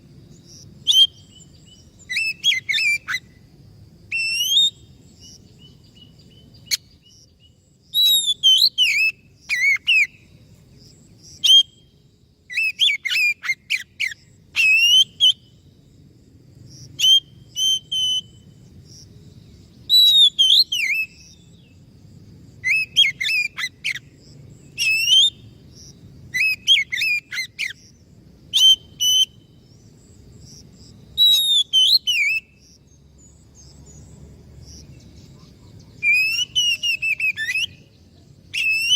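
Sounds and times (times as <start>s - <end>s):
bird whistled song: 0.3s - 3.4s, 4.1s - 10.4s, 11.2s - 15.7s, 17.0s - 18.7s, 19.6s - 21.8s, 22.6s - 25.5s, 26.3s - 30.0s, 31.1s - 34.1s, 34.8s - 38.9s.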